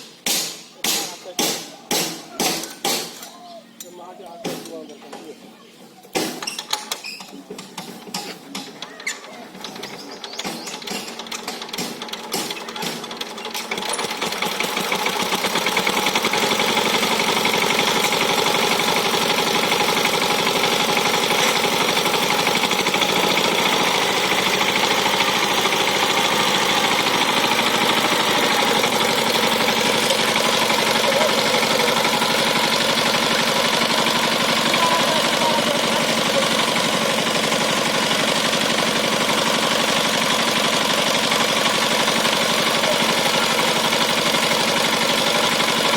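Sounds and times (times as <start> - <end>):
diesel tiller engine chugging: 6.4 - 45.9.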